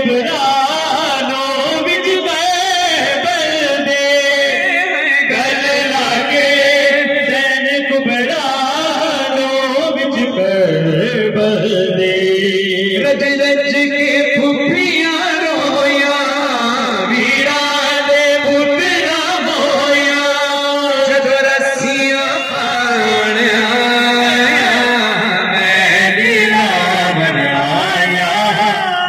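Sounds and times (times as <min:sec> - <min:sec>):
men chanting a lament: 0:00.0 - 0:29.0.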